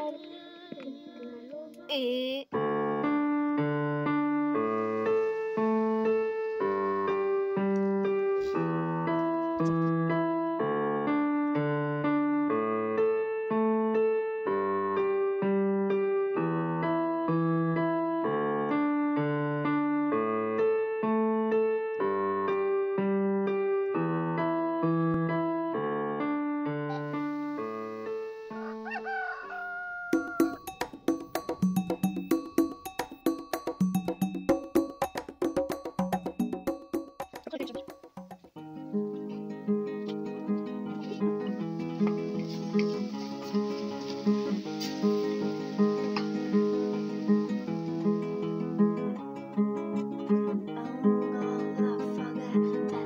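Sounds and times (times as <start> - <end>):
gentle piano music: 2.6 - 29.5, 30.2 - 53.0.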